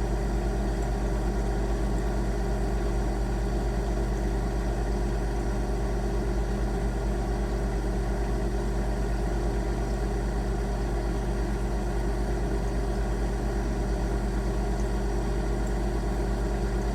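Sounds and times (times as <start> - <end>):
refrigerator compressor hum: 0.0 - 16.9.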